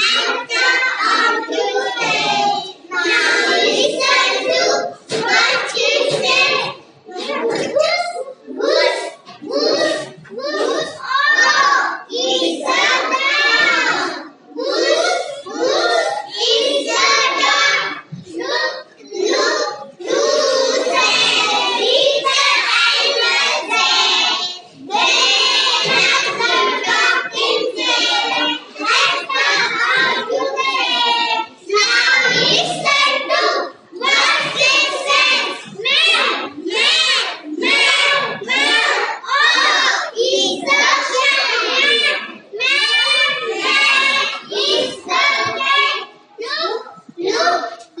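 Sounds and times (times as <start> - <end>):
young children singing: 0.0 - 48.0.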